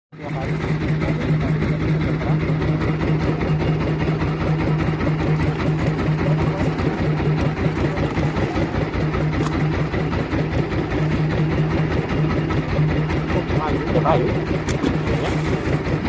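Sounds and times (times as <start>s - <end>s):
boat engine running: 0.2s - 16.0s.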